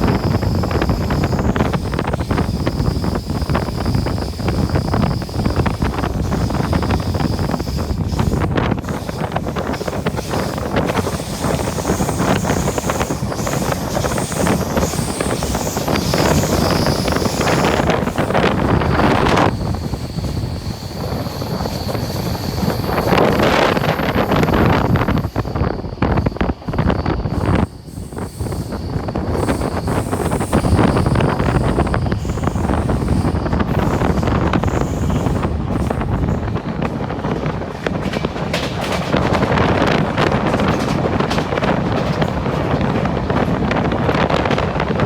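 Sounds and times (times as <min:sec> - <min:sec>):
train rumbling: 0:00.0 - 0:45.0
wind buffeting microphone: 0:00.0 - 0:45.0.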